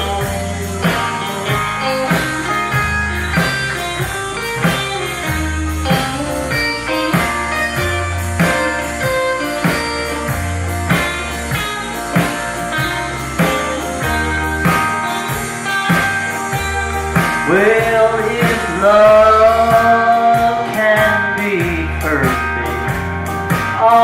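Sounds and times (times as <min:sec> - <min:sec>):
country band playing: 0:00.0 - 0:24.0
drum beat: 0:00.0 - 0:24.0
guitar melody: 0:00.0 - 0:24.0.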